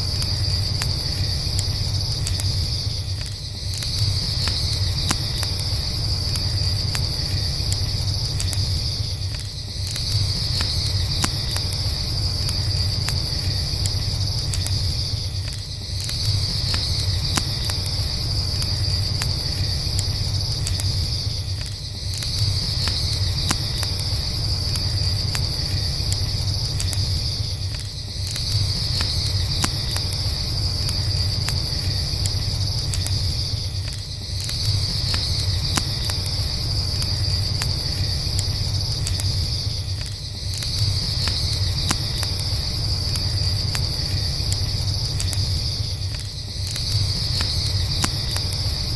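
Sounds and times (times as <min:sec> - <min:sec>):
campfire rumble and crackles: 0:00.0 - 0:48.9
crickets chirring: 0:00.0 - 0:48.9.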